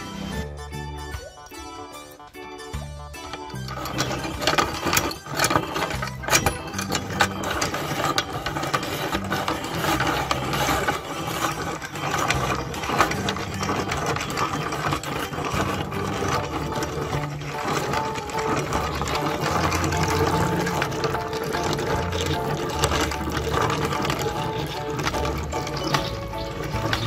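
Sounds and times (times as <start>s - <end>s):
candies clicking and rattling: 3.2s - 27.0s
electric meat grinder running: 3.2s - 27.0s.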